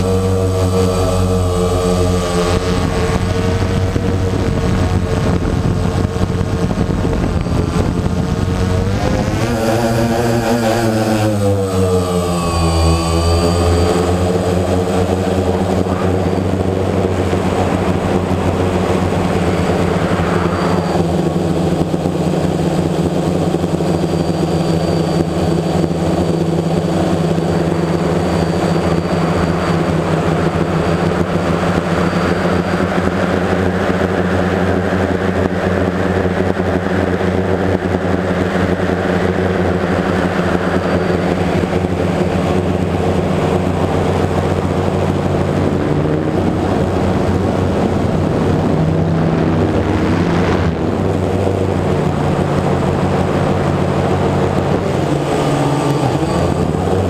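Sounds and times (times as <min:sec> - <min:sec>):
drone propellers buzzing: 0:00.0 - 0:57.0.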